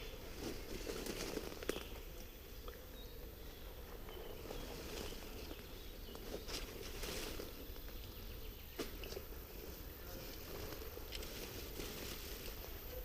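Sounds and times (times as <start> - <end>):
rustling through undergrowth: 0.0 - 13.0.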